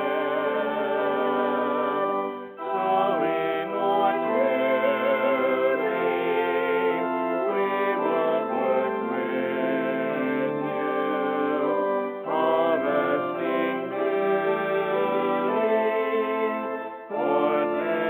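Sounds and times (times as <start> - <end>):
brass-like held chords: 0.0 - 18.0
person singing: 0.0 - 18.0.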